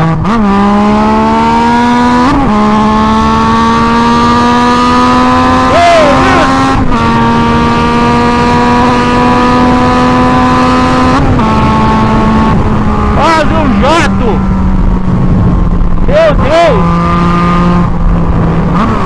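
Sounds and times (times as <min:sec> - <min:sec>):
loud motorcycle engine: 0:00.0 - 0:19.0.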